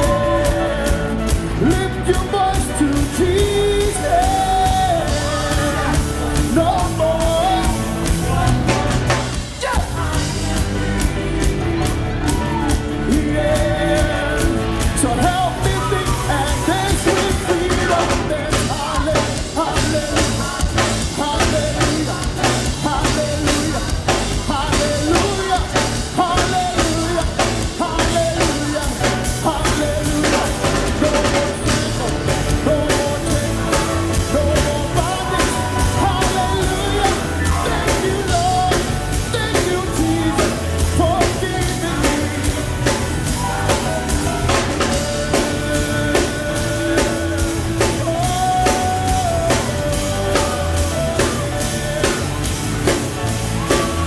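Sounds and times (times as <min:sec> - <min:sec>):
bass: 0:00.0 - 0:54.0
drum kit beat: 0:00.0 - 0:54.0
people singing: 0:00.0 - 0:54.0.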